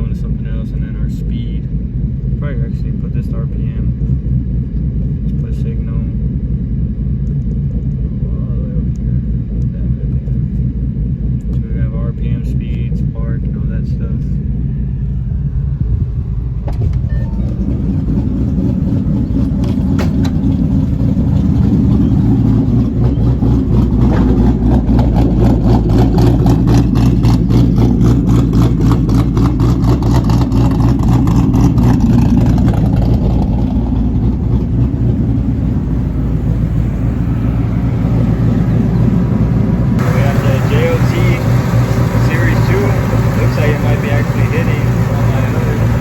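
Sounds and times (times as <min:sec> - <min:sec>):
car engine idling with choppy lope: 0:00.0 - 0:46.0.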